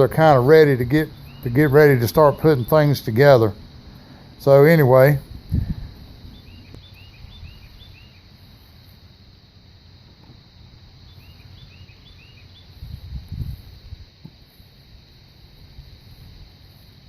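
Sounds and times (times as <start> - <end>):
songbird chirping: 0.0 - 14.4.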